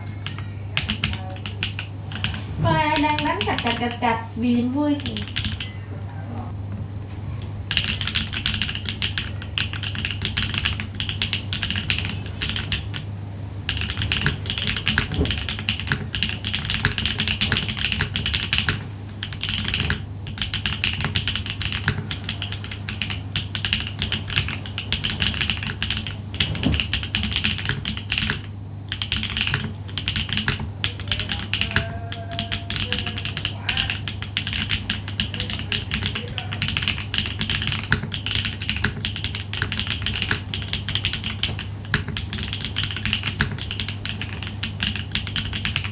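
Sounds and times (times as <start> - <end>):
mechanical keyboard clacking: 0.0 - 4.2, 4.8 - 5.8, 7.4 - 13.1, 13.7 - 45.9
steady low hum: 0.0 - 45.9.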